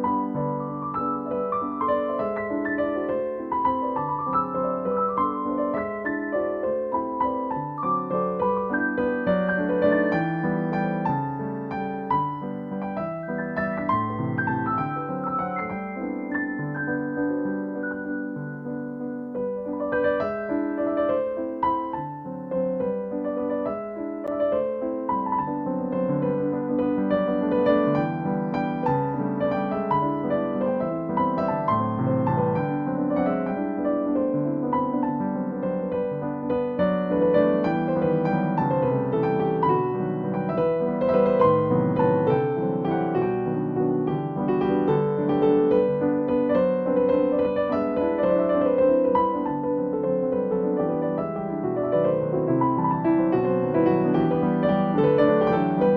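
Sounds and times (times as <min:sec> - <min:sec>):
gentle piano music: 0:00.0 - 0:55.9.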